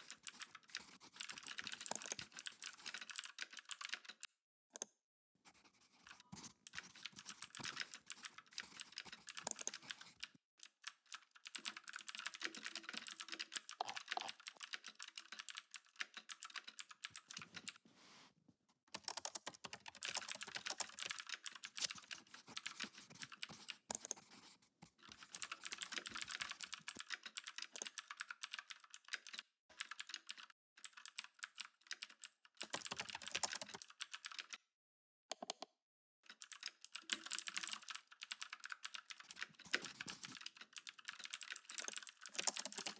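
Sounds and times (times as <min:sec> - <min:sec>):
computer keyboard typing: 0:00.0 - 0:04.9, 0:05.9 - 0:17.8, 0:18.9 - 0:34.6, 0:36.3 - 0:42.9.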